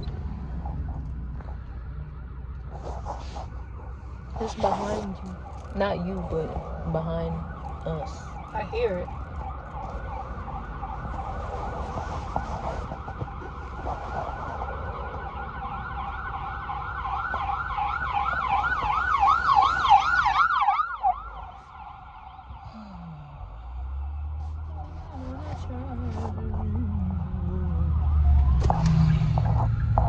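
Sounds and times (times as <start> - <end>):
car road rumble: 0.0 - 30.0
emergency vehicle siren wailing: 0.0 - 30.0.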